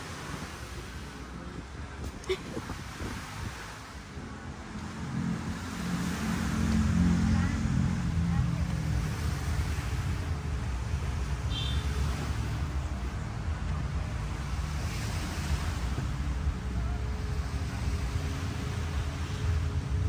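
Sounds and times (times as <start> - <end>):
waves breaking on beach: 0.0 - 20.0
wind buffeting microphone: 0.0 - 20.0.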